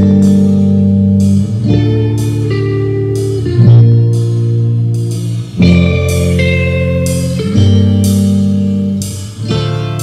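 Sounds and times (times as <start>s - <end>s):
guitar music from tape: 0.0s - 10.0s.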